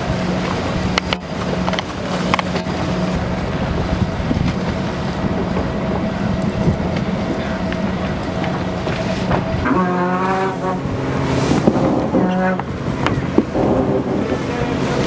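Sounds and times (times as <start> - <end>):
boat motor drone: 0.0 - 15.0
water rushing: 0.0 - 15.0
wind: 0.0 - 15.0.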